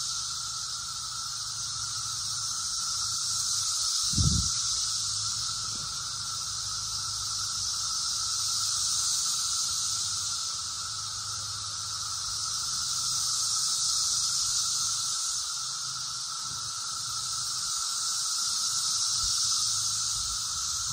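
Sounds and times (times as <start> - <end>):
cicadas buzzing chorus: 0.0 - 20.9.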